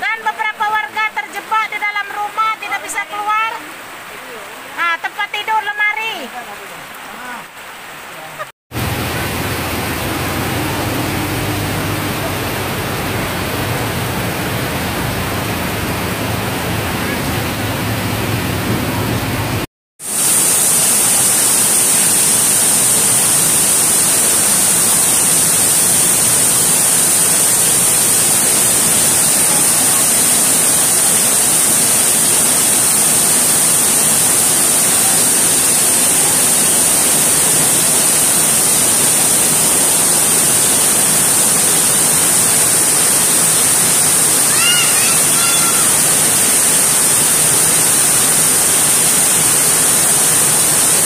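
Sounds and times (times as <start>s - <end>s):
heavy rain: 0.0s - 51.0s
running floodwater: 0.0s - 51.0s.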